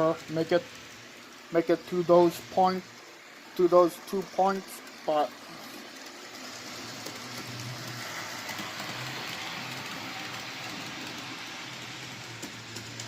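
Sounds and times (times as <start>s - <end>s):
model train motor hum: 0.0s - 13.0s
wheels rumbling on rails: 0.0s - 13.0s.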